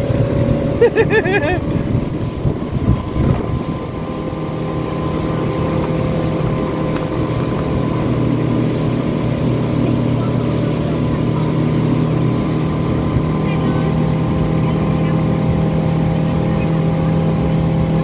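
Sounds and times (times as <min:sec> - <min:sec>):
motorboat engine running: 0:00.0 - 0:18.0
water rushing past hull: 0:00.0 - 0:18.0.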